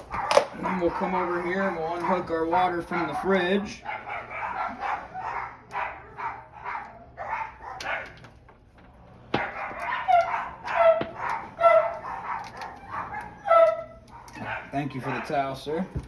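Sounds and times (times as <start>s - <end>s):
dog barking: 0.0s - 8.2s, 9.4s - 15.6s.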